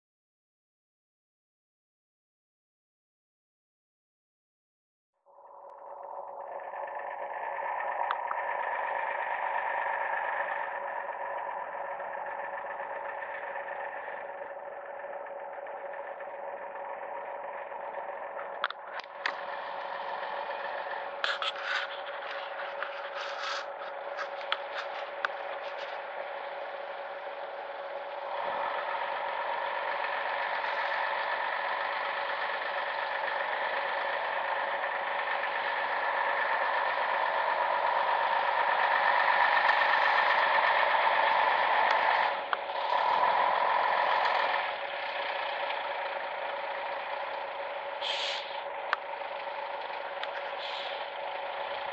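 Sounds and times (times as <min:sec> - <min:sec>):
diesel truck engine running: 0:05.3 - 0:51.9
sharp clicks and rattles: 0:06.9 - 0:51.9.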